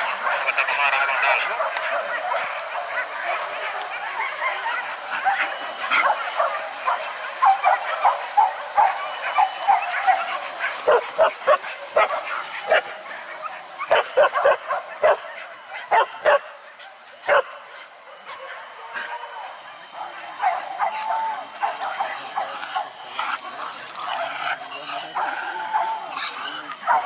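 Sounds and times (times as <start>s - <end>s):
dogs barking and yelping: 0.0s - 27.0s.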